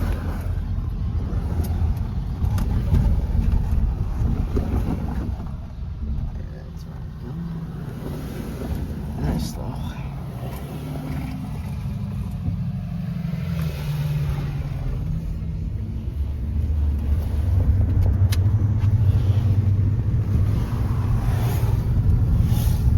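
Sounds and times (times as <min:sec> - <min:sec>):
locomotive diesel engine rumbling: 0:00.0 - 0:22.9.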